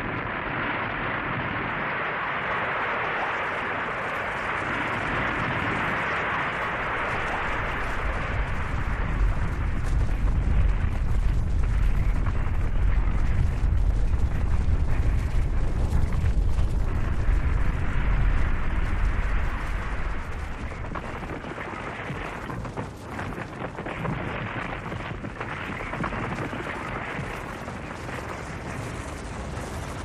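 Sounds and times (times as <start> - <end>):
deep avalanche rumble: 0.0 - 30.0.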